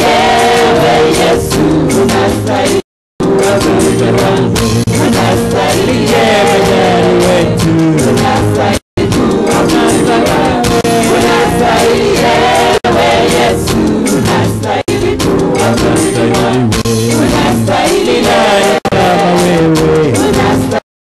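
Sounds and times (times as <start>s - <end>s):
group singing gospel: 0.0s - 20.8s.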